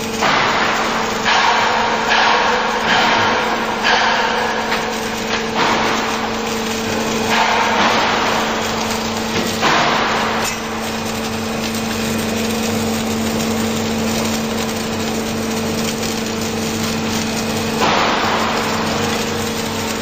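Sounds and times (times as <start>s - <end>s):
welding hiss: 0.0s - 20.0s
welding machine humming: 0.0s - 20.0s.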